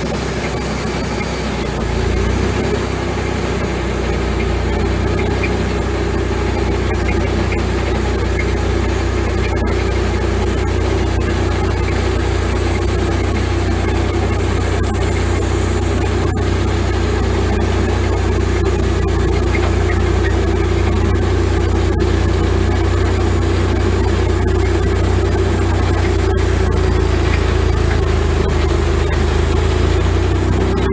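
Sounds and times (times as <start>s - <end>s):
bandsaw sawmill cutting log: 0.0s - 30.9s.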